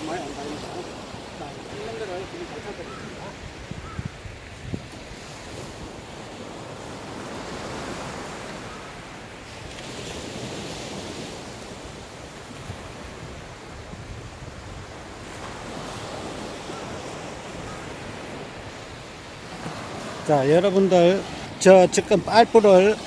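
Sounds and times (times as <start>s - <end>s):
ocean surf on beach: 0.0s - 23.0s.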